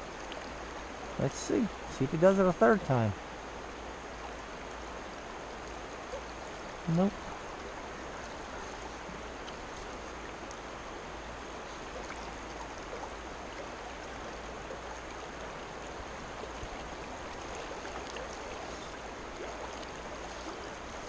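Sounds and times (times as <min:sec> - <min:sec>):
stream water running: 0:00.0 - 0:21.0.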